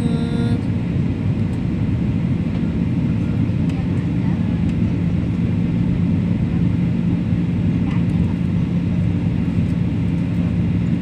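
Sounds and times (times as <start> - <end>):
airliner cabin engine drone: 0.0 - 11.0
constant low hum: 0.0 - 11.0.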